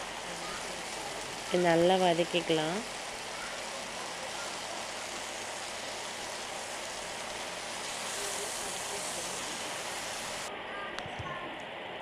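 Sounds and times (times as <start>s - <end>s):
vegetables sizzling in oil: 0.0s - 10.5s.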